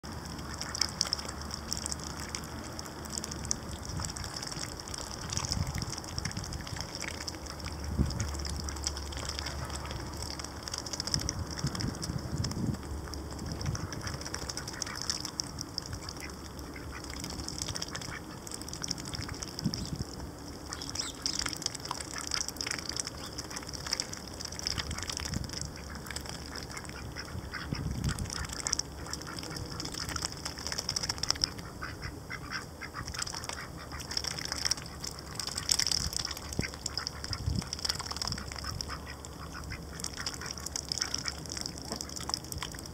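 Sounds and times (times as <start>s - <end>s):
ducks slurping in wet mud: 0.0s - 42.9s.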